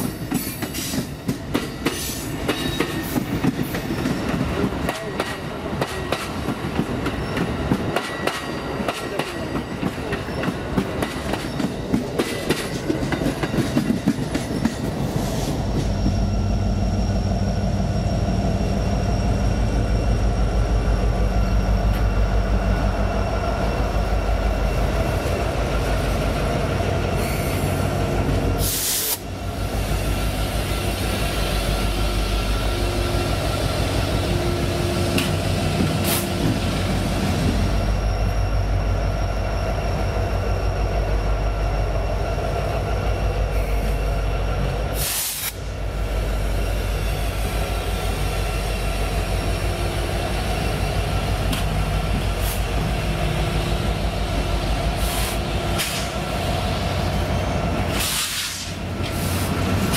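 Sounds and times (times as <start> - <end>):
locomotive engine drone: 4.0 - 59.9.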